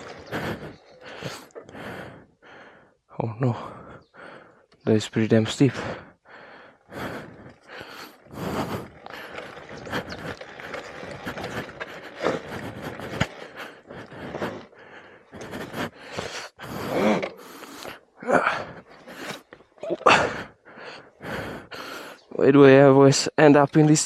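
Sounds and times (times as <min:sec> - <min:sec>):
person breathing hard: 0:00.0 - 0:04.7, 0:05.7 - 0:22.3.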